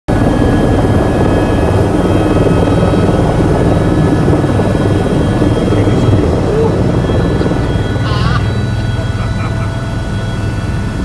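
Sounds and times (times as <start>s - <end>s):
helicopter rotor beat: 0.1s - 11.0s
turbine whine: 0.1s - 11.0s.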